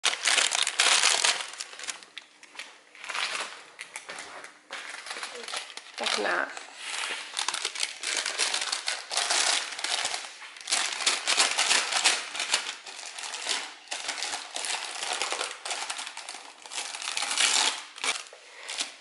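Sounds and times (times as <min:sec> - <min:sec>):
paper bag crinkling: 0:00.0 - 0:19.0.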